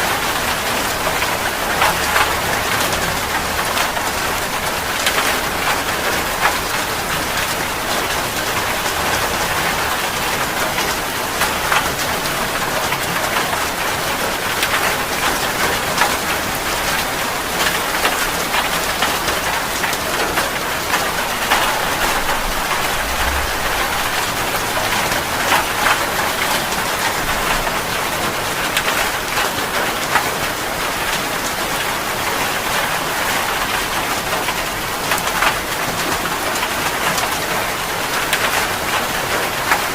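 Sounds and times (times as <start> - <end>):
heavy rain: 0.0 - 39.9
raindrops pattering on a surface: 0.0 - 39.9.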